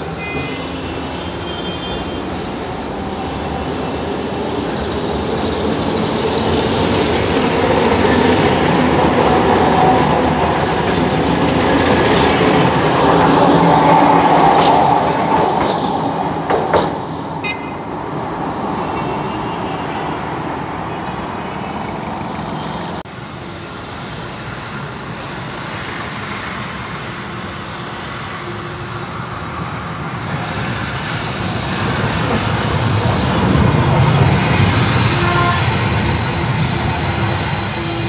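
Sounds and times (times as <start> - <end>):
street traffic noise: 0.0 - 38.0
trams rolling on rails: 0.0 - 38.0.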